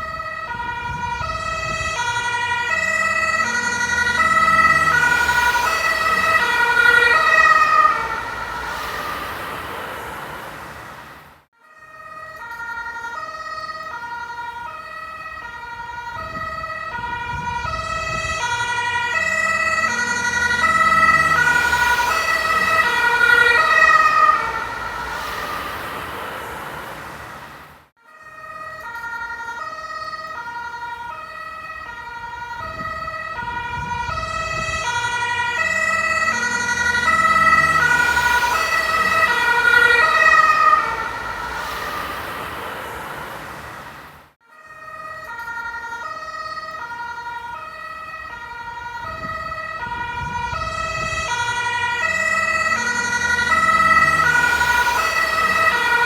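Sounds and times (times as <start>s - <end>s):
two-tone ambulance siren: 0.0s - 56.0s
vehicle engine and road noise: 0.0s - 56.0s.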